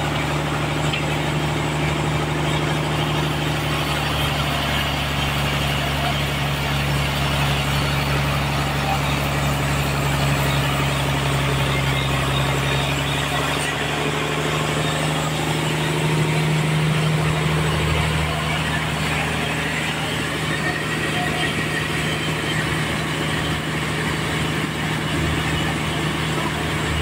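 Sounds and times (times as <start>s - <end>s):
sawmill machinery running: 0.0s - 27.0s.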